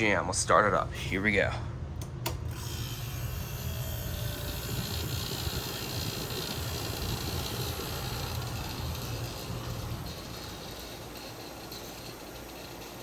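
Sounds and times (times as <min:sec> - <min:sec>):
air conditioner humming: 0:00.0 - 0:13.0
fan air rushing: 0:00.0 - 0:13.0.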